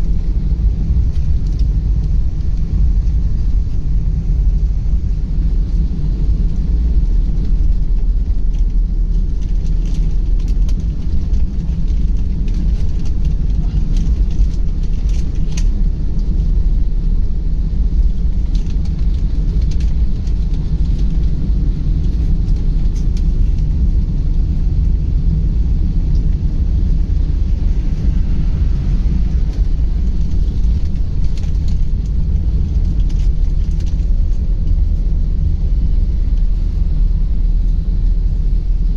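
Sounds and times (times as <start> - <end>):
car driving rumble: 0.0 - 38.9.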